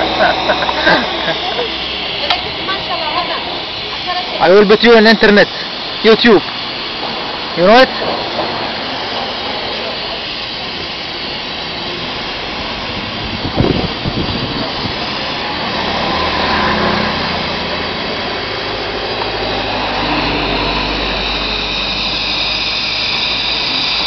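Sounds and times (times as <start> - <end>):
loud rushing hiss: 0.0 - 24.0
low hum: 0.0 - 24.0.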